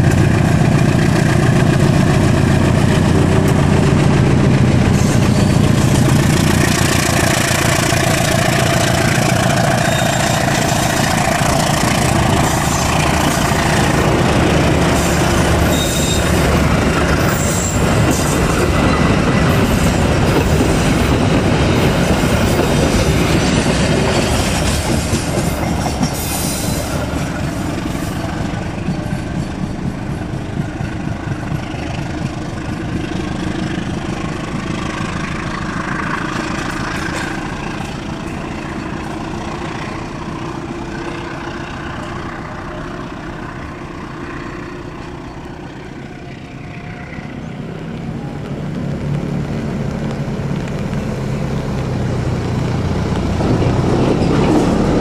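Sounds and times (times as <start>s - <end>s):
diesel engine drone: 0.0s - 55.0s
train wheels on rails: 0.0s - 55.0s.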